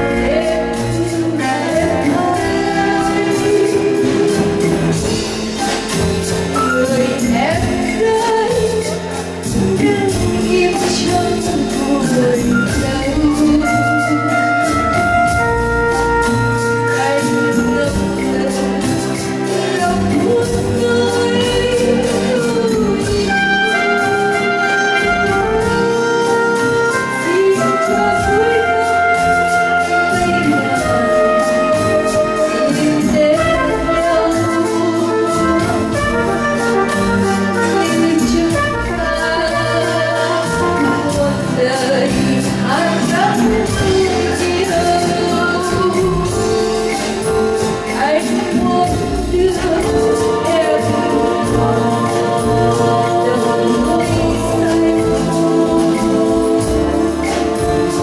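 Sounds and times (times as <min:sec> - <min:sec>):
steady drum beat: 0:00.0 - 0:58.0.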